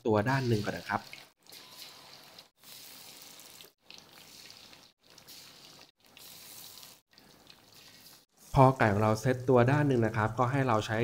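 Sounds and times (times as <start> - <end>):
oil sizzling: 0.2 - 10.1.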